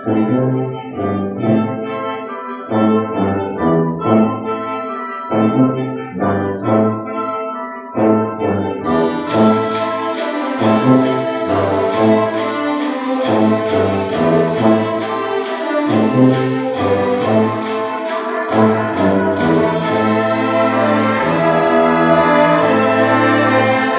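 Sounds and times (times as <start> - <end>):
orchestra playing lively chords: 0.0 - 23.9.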